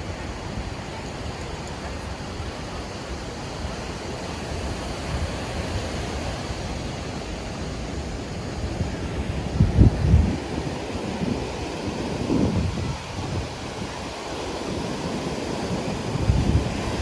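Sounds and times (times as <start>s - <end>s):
sea surf on sand beach: 0.0s - 17.0s.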